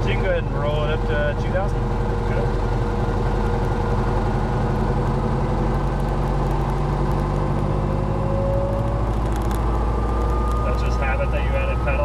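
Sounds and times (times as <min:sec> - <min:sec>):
helicopter engine and rotor running: 0:00.1 - 0:12.0.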